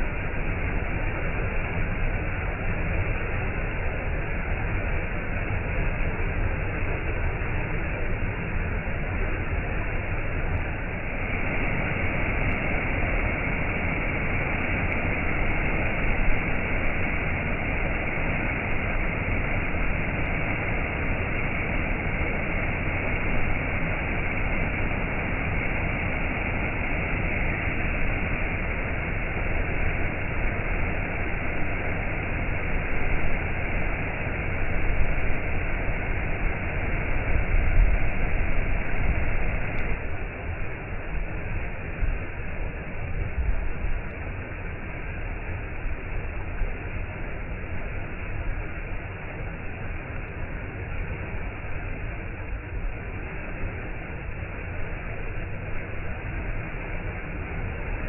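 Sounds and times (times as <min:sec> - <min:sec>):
waterfall rushing: 0:06.8 - 0:58.0.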